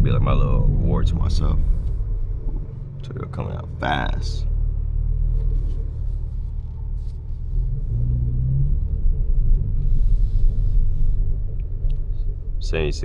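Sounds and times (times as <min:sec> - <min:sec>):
car engine drone from inside cabin: 0:00.0 - 0:13.0.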